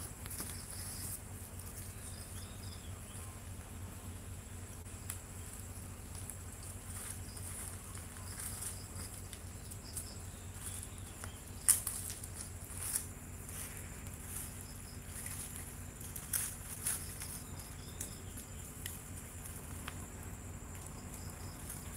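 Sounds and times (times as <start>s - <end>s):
insects chirring: 0.0s - 21.9s
low steady hum: 0.0s - 21.9s.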